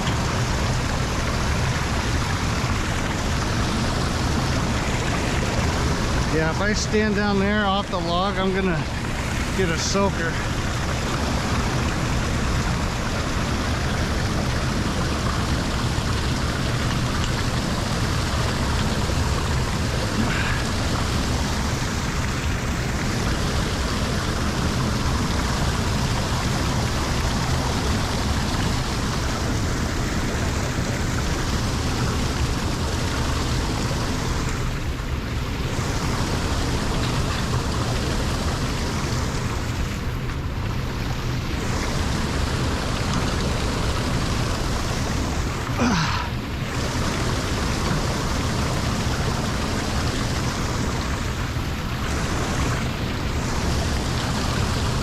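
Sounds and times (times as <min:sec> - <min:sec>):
water pouring into drain: 0:00.0 - 0:55.0.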